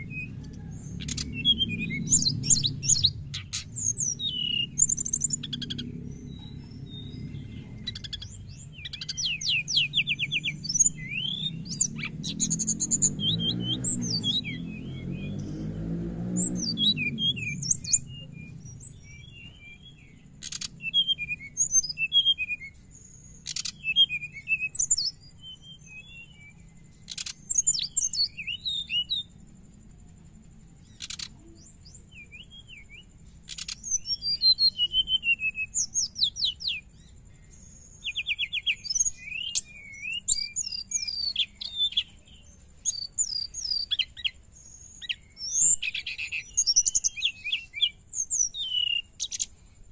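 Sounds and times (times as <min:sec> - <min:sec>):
bird twittering song: 0:00.0 - 0:49.9.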